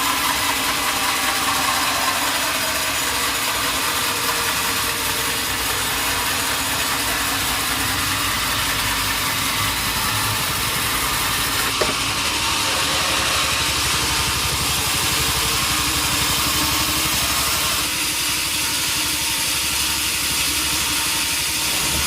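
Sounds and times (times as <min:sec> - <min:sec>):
sawmill machinery drone: 0:00.0 - 0:22.0.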